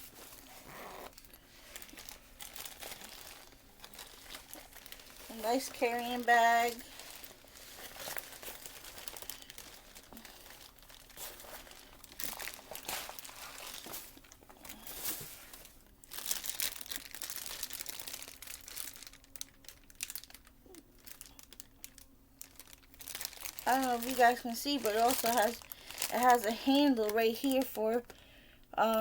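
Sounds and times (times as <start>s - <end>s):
packaging crinkling: 0.0s - 28.2s.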